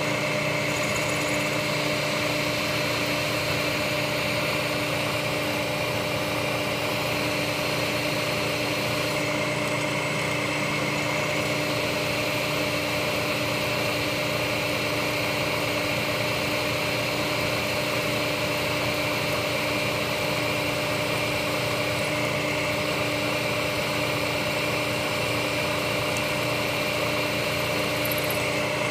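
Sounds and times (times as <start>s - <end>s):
milling machine spindle whine: 0.0s - 28.9s.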